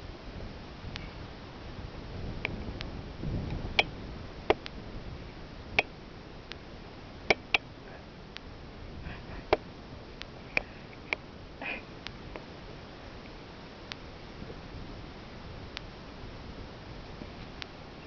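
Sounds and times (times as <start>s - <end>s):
faint background hiss: 0.0s - 18.0s.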